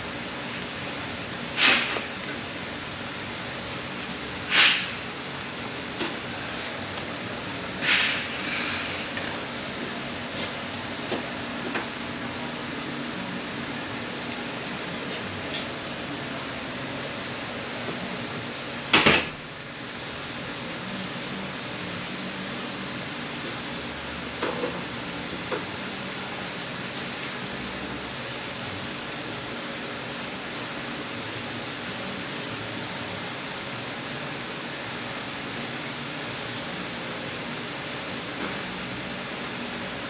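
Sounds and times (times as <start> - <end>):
fan-like hiss: 0.0 - 40.0.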